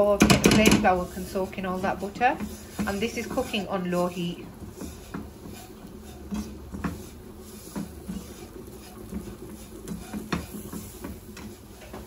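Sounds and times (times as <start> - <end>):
utensil stirring roux in wok: 0.0 - 12.0
utensil tapping and scraping pan: 0.0 - 12.0.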